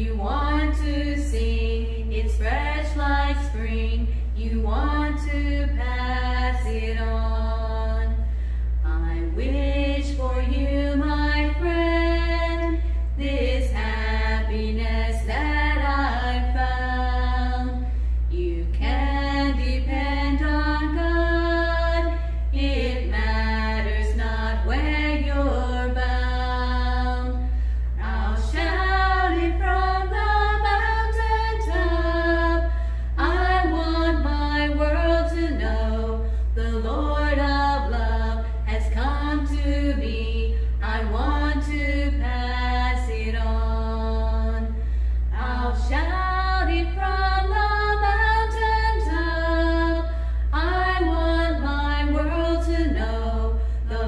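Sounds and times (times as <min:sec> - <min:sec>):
low hum: 0:00.0 - 0:54.0
women singing unaccompanied: 0:00.0 - 0:54.0.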